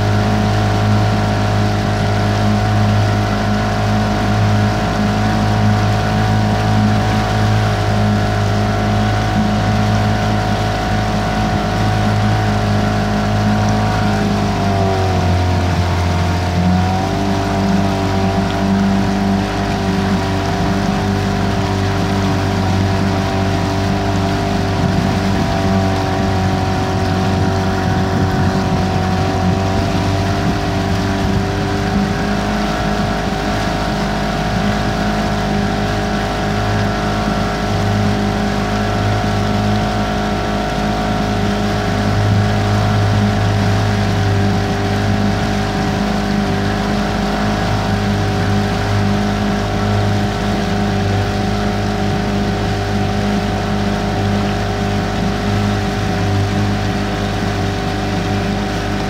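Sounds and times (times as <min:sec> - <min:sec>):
boat outboard motor running: 0:00.0 - 0:59.0.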